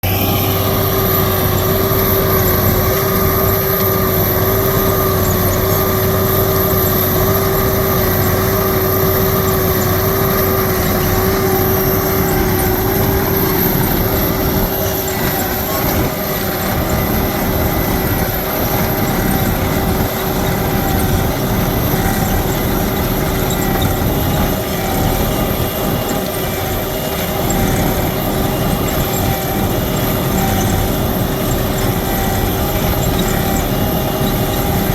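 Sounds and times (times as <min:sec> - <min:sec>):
heavy engine running: 0:00.0 - 0:34.9
steady machine whine: 0:00.0 - 0:34.9.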